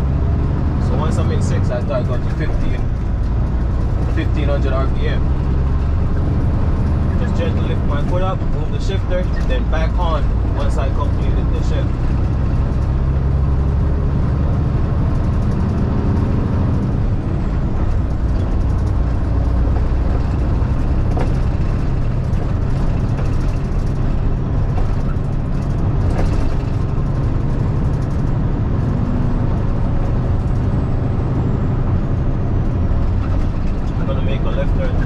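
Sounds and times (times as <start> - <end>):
road noise: 0.0 - 35.0
truck engine rumble: 0.0 - 35.0.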